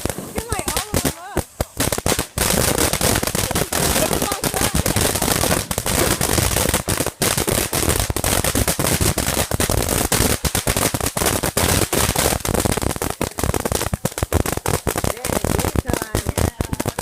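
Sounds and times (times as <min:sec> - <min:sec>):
firecrackers popping: 0:00.0 - 0:17.0.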